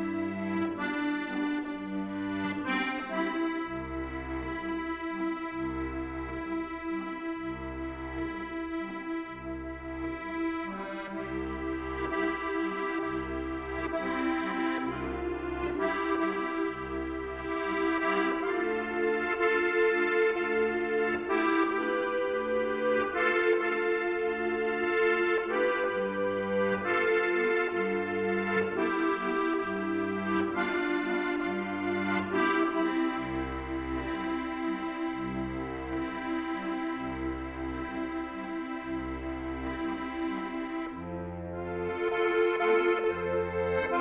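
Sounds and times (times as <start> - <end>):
button accordion playing slow tune: 0.0 - 44.0.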